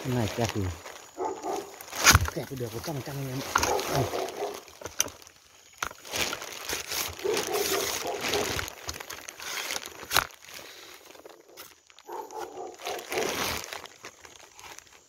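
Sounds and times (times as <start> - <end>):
rustling and crinkling handling noise: 0.0 - 15.0.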